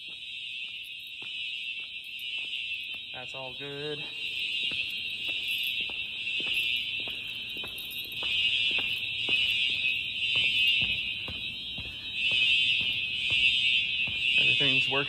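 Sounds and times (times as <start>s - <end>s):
fire alarm horns continuous tone: 0.0s - 15.0s.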